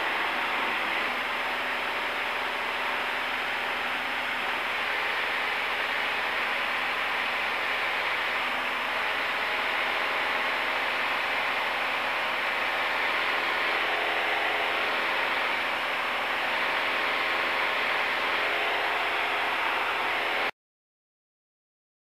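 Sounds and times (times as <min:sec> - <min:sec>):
aircraft engine and propeller drone: 0:00.0 - 0:20.5.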